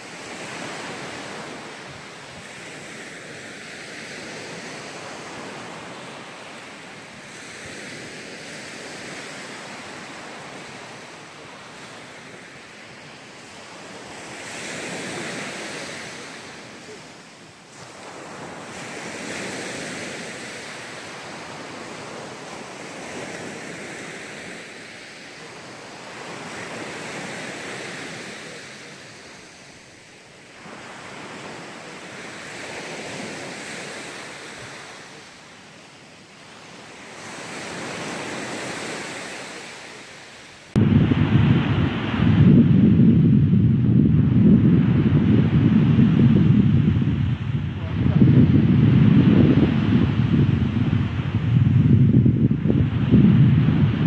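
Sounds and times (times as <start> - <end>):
waves breaking on sandy beach: 0.0 - 54.0.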